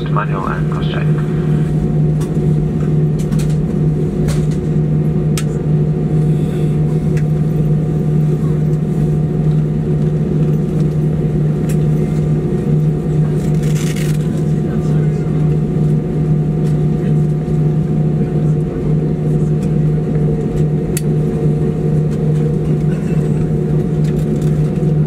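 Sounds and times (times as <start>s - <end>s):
airplane cabin engine hum: 0.0s - 25.0s.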